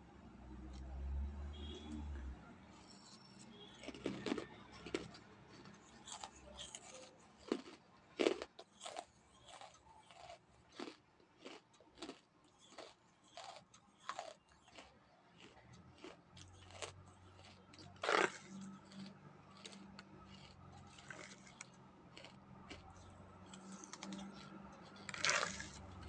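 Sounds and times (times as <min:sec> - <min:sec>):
chewing crunchy food: 0:02.7 - 0:26.0.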